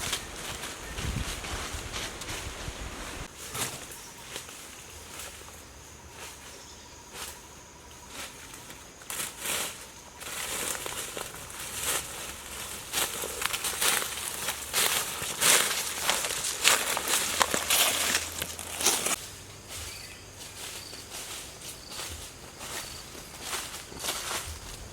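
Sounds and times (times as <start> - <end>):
footsteps in dry leaves: 0.0 - 24.9.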